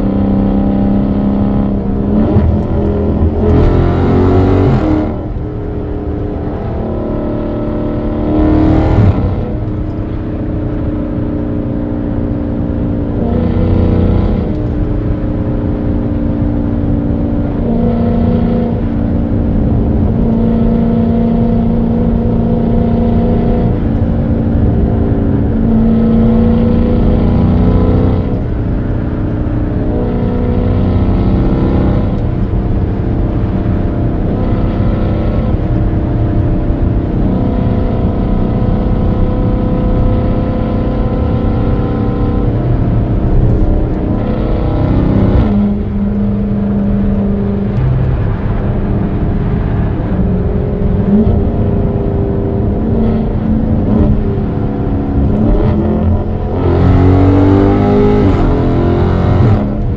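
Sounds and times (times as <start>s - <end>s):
car exhaust drone: 0.0s - 59.9s.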